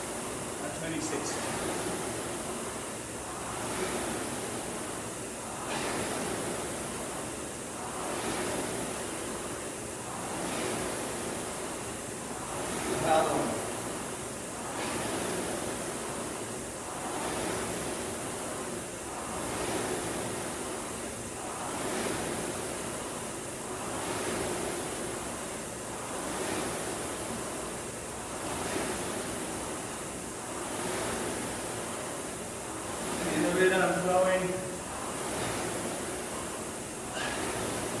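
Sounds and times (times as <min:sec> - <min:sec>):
rowing machine fan whooshing: 0:00.0 - 0:38.0.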